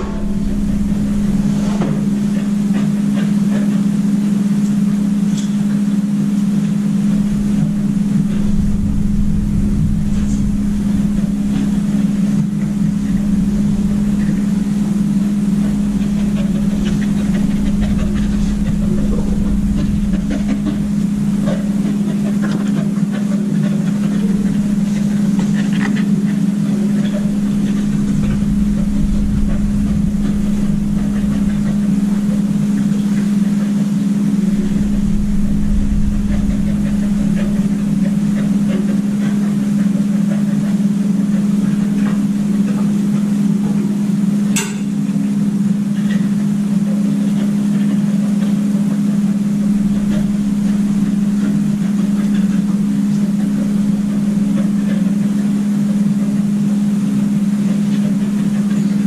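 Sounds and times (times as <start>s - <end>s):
loud low mechanical hum: 0.0s - 59.0s.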